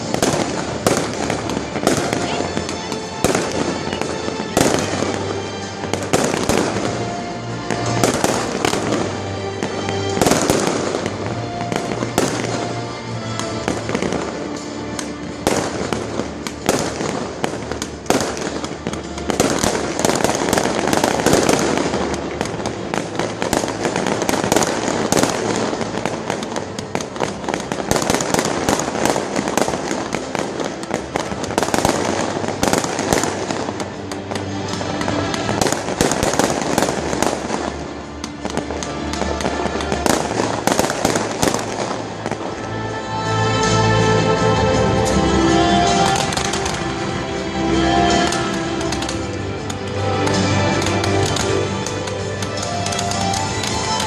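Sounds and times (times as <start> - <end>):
fireworks banging and crackling: 0.0 - 54.0
loud music: 0.0 - 54.0.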